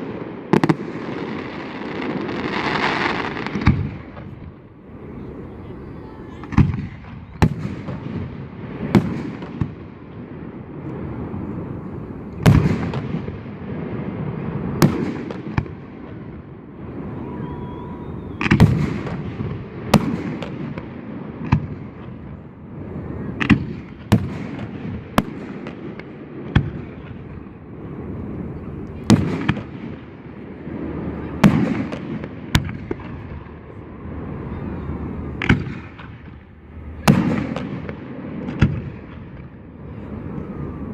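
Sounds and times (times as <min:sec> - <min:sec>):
fireworks bangs with rumbling echo: 0:00.0 - 0:40.9.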